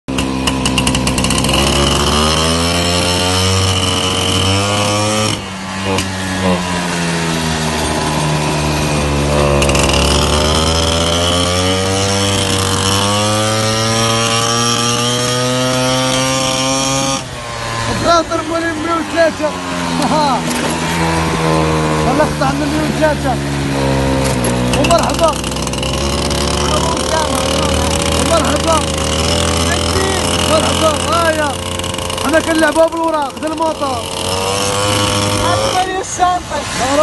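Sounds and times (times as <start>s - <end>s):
moped engine buzzing: 0.1s - 37.0s.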